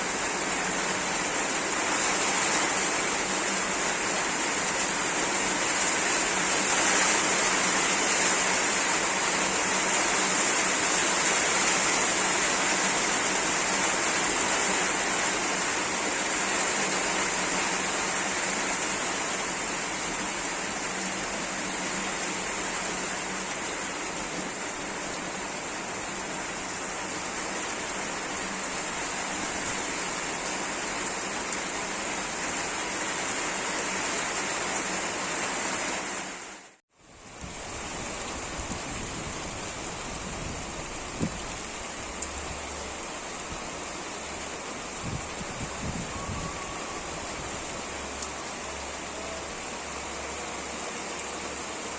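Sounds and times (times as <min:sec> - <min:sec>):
heavy rain in wind: 0:00.0 - 0:51.9.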